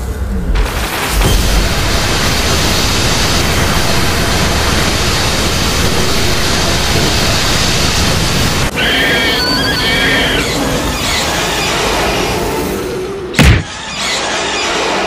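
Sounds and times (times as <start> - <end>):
energy beam roar: 0.6 - 15.0.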